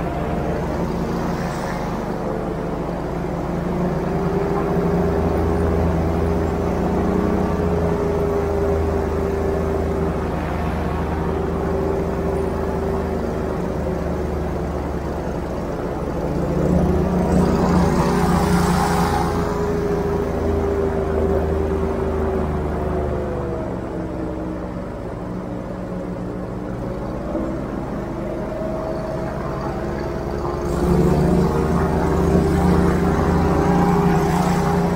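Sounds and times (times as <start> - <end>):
airboat engine and propeller drone: 0.0 - 34.9.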